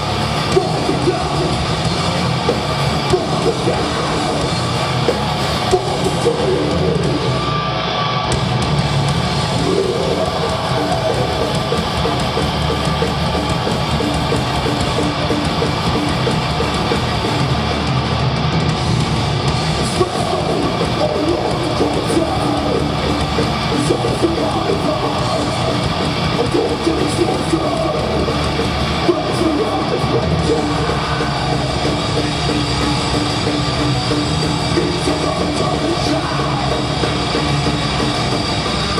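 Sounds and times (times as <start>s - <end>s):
metal band playing live: 0.0s - 38.9s.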